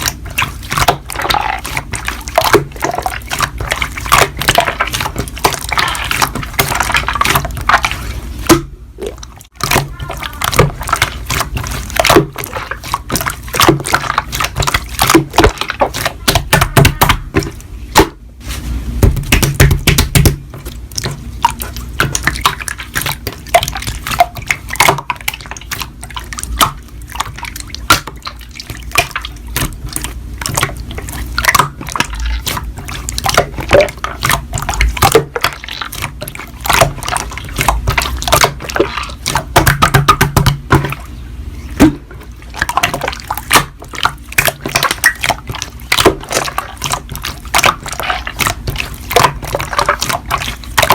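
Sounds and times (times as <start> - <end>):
slime squelching: 0.0 - 50.9.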